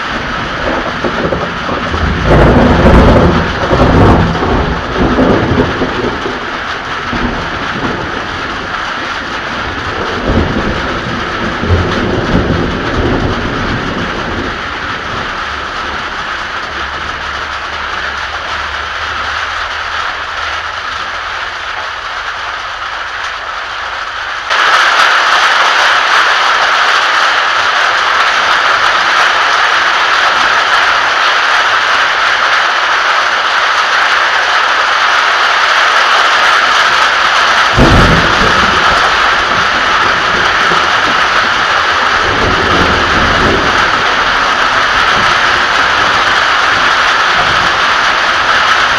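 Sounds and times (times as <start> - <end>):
steady rain: 0.0 - 48.9
thunder rumbling: 0.0 - 48.9.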